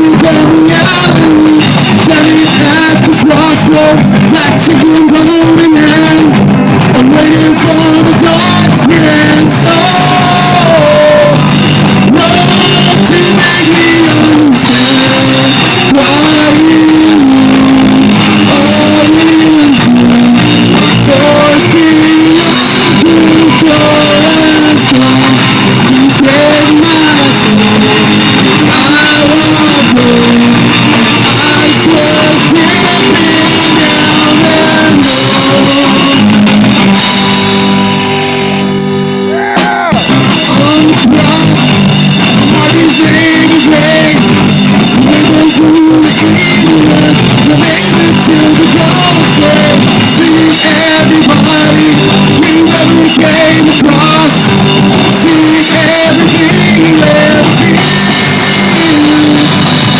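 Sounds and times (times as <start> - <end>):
person singing: 0.0 - 37.6, 39.2 - 59.9
live rock band: 0.0 - 59.9.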